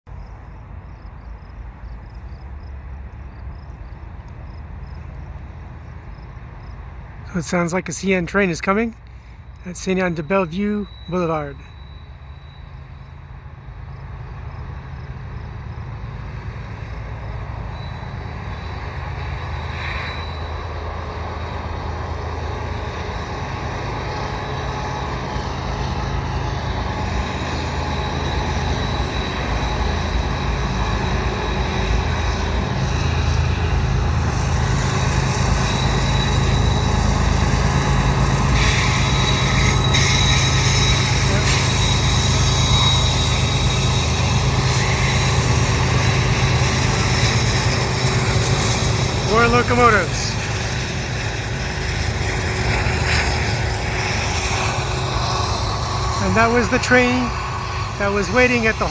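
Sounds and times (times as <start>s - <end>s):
diesel locomotive engine rumble: 0.1s - 58.9s.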